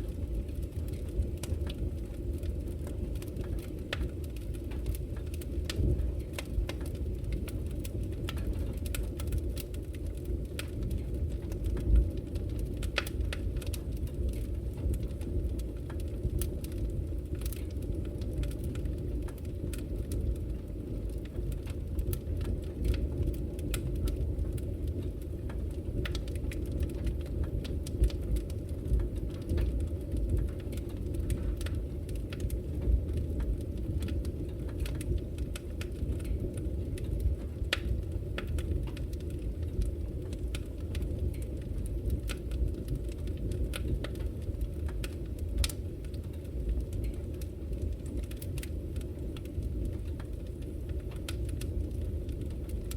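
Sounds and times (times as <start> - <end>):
burning logs crackling: 0.0 - 52.9
fire flames rumbling: 0.0 - 52.9.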